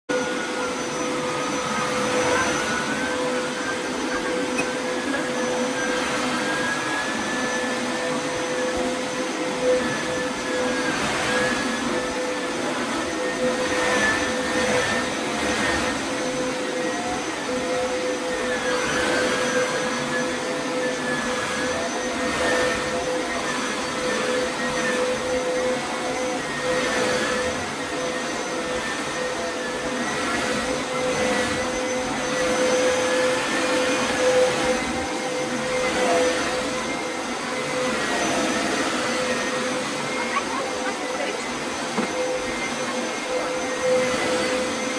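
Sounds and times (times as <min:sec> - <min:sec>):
carpet shampooer motor whine: 0:00.1 - 0:44.9.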